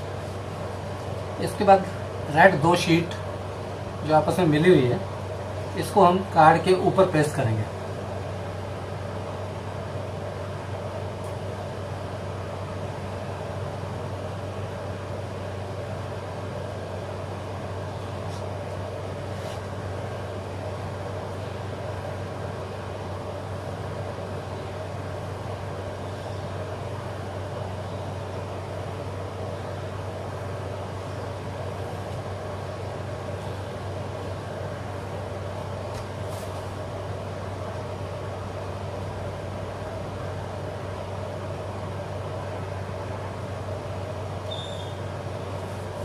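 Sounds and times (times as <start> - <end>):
low background hum: 0.0 - 46.0.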